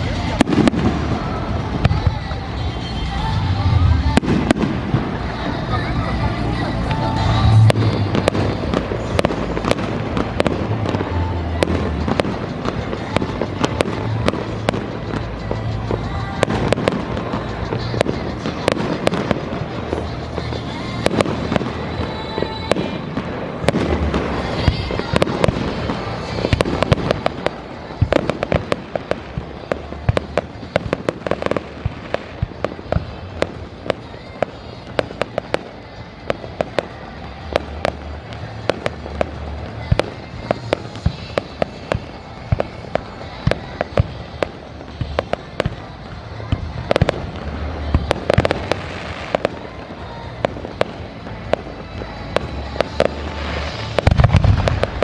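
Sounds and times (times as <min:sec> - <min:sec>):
deep fireworks booms: 0:00.0 - 0:02.5, 0:03.2 - 0:55.0
fireworks crackling and banging: 0:00.0 - 0:55.0.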